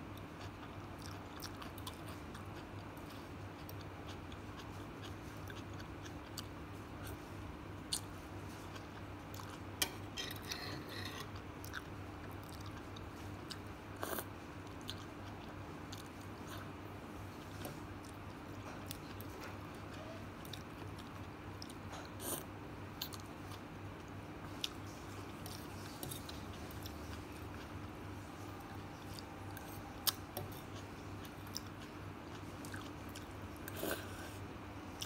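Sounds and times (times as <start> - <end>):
chewing: 0.2 - 7.3, 7.9 - 34.4.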